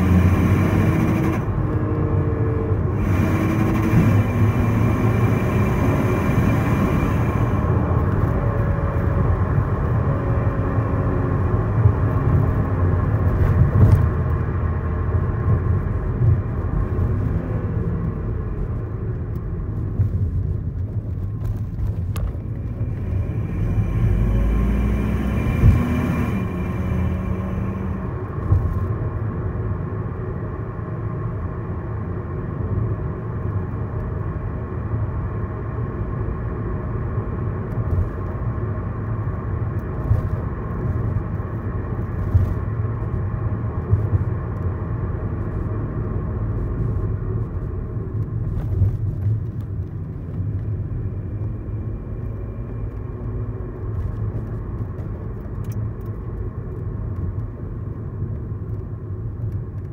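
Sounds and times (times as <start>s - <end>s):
car engine low rumble: 0.0s - 59.9s.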